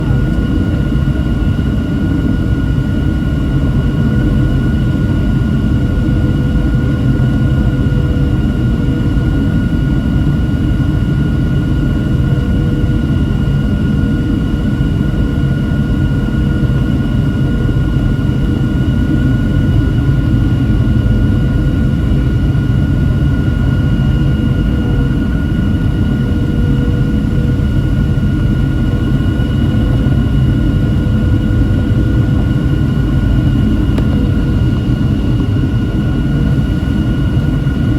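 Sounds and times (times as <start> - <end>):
jet engine cabin rumble: 0.0 - 37.9.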